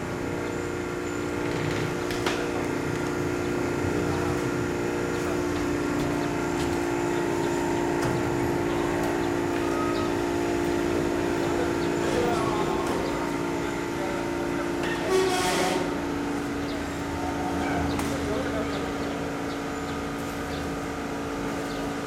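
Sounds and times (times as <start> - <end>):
electric motors humming: 0.0 - 22.0.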